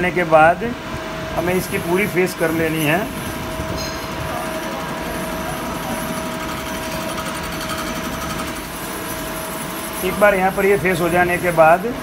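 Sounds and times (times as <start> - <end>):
lathe machine hum with whine: 0.0 - 12.0.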